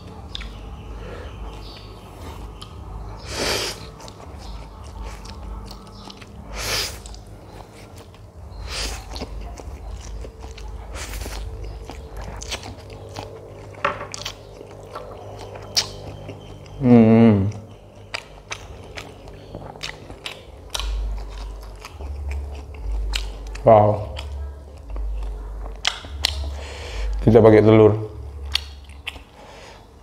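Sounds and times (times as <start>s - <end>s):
person chewing noodles: 0.0s - 27.2s, 28.2s - 30.0s
steady low hum: 0.0s - 30.0s.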